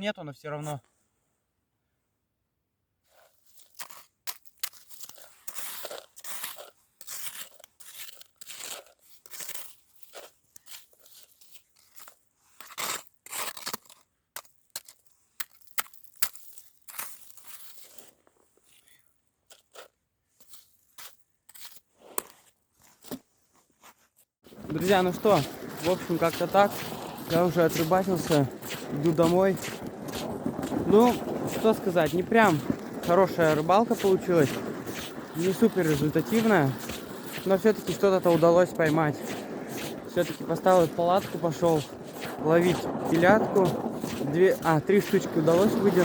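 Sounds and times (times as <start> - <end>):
snow crunching and scraping: 3.0 - 46.0.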